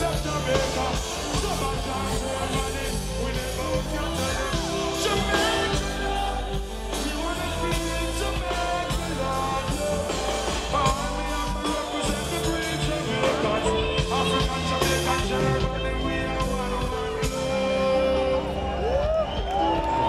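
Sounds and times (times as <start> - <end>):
man singing: 0.0 - 18.8
live reggae band music: 0.0 - 20.0
steady bass line: 0.0 - 20.0.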